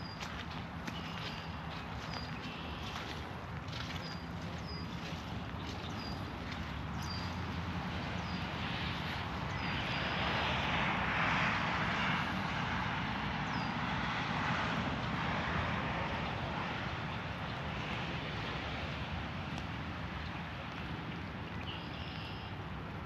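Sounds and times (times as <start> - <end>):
rushing water and rain: 0.0 - 23.0.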